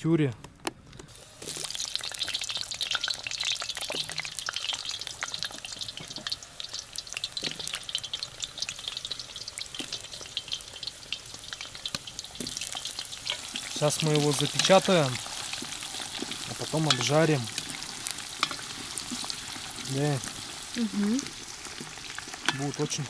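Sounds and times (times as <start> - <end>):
potatoes frying in oil: 1.1 - 23.0.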